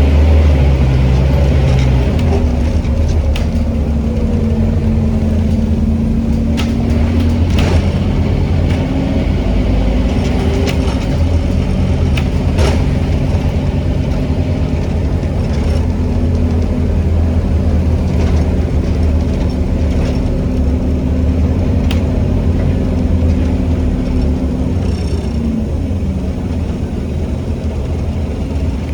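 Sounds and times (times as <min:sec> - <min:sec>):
bus body rattling and knocking: 0:00.0 - 0:28.9
bus diesel engine running: 0:00.0 - 0:28.9.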